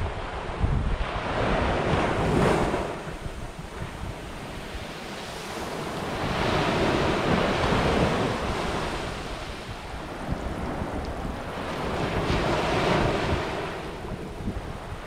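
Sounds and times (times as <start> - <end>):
waves breaking on a beach: 0.0 - 15.0
wind rumble on microphone: 0.0 - 15.0.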